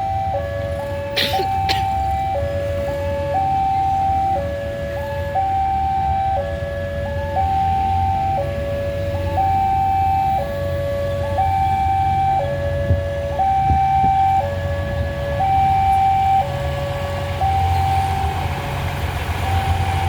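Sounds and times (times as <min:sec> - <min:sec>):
two-tone warning alarm: 0:00.0 - 0:18.6, 0:19.4 - 0:20.0
low engine rumble: 0:00.0 - 0:20.0.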